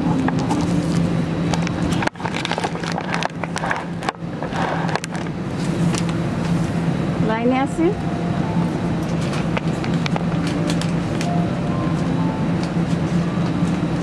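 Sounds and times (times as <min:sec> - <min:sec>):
airliner cabin air hum: 0:00.0 - 0:14.0.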